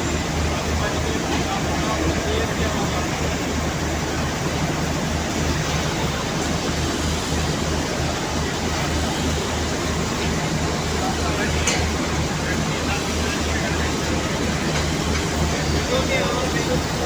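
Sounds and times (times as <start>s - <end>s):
train rumbling with regular throb: 0.0s - 17.0s.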